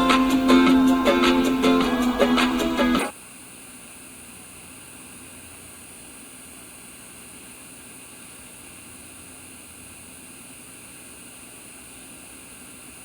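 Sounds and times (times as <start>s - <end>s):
steady speaker hiss: 0.0s - 13.0s.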